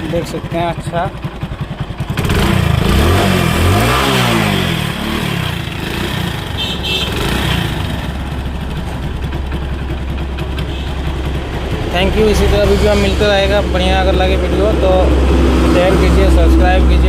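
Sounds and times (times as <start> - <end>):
motorcycle engine revving and idling: 0.0 - 17.0.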